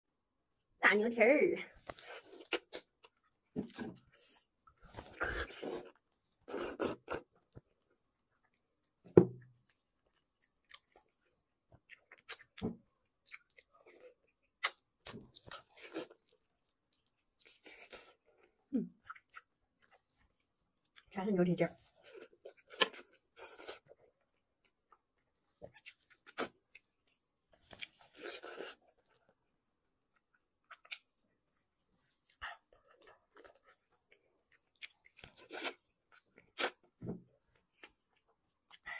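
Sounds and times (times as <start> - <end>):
chewing and wet mouth noises: 1.9 - 21.1, 21.8 - 38.9.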